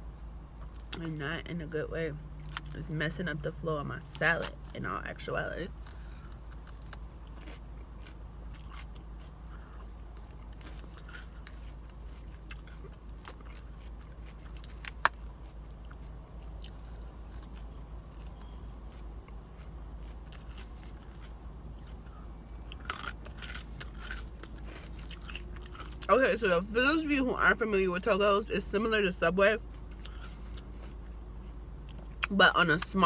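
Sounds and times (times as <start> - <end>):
low steady hum: 0.0 - 33.0
chewing and crunching salad: 0.6 - 33.0.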